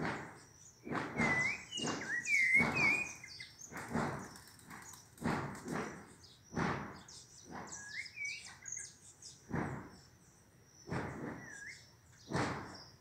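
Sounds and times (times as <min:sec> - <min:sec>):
songbird chirps and whistles: 0:00.0 - 0:05.1, 0:05.8 - 0:13.0.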